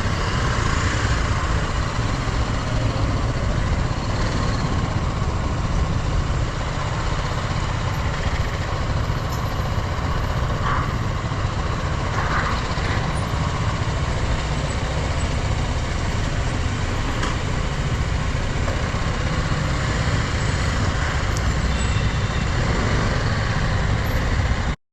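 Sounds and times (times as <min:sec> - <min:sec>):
wind rush road noise: 0:00.0 - 0:24.8.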